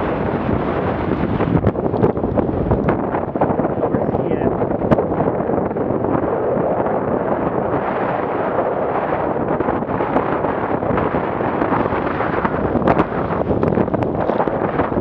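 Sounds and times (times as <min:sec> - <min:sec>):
motorboat through waves: 0:00.0 - 0:15.0
wind battering microphone: 0:00.0 - 0:15.0.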